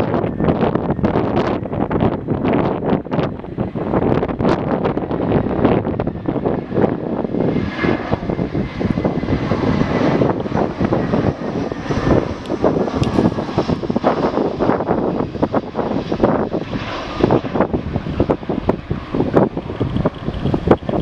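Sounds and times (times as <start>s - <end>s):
jet engines of landing airliner: 0.0s - 21.0s
wind buffeting microphone: 0.0s - 21.0s.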